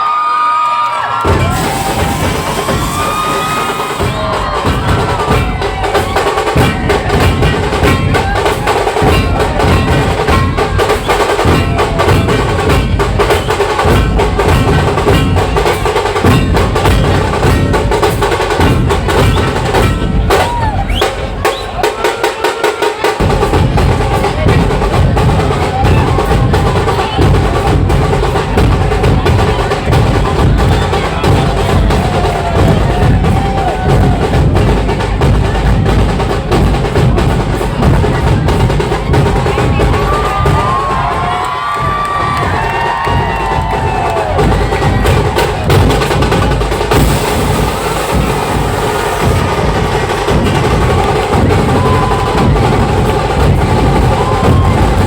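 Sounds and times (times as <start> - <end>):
drum band playing fast beat: 1.1 - 55.0
deep bass drum: 1.2 - 21.6, 23.2 - 55.0.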